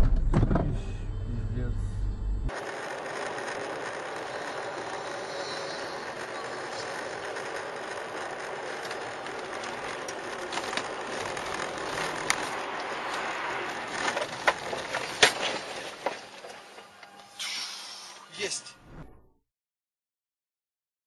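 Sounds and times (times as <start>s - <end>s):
car road and engine noise: 0.0s - 18.4s.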